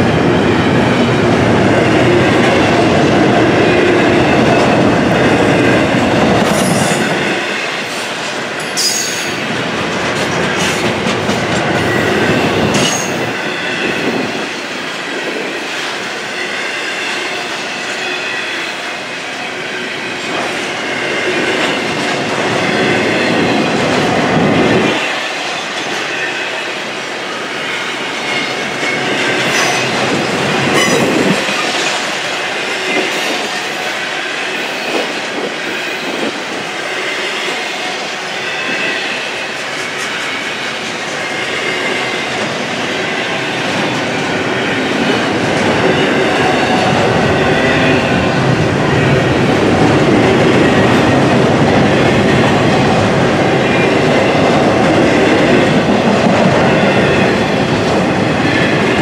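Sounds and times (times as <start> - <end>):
freight train wheels clattering on rails: 0.0 - 59.0
low train rumble: 0.0 - 59.0.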